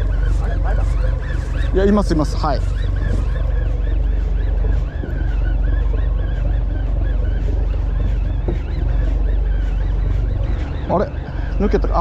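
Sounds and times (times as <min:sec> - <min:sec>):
boat engine running: 0:00.0 - 0:12.0
warbling whine: 0:00.0 - 0:12.0.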